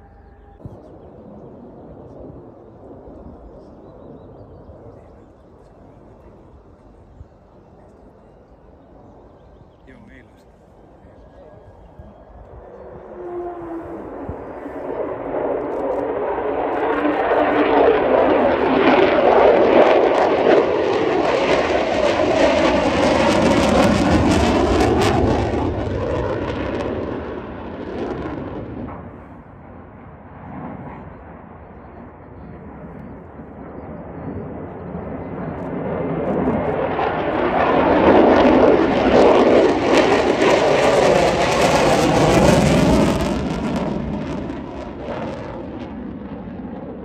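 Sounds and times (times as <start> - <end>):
fighter jet engine roaring: 0.0 - 47.0.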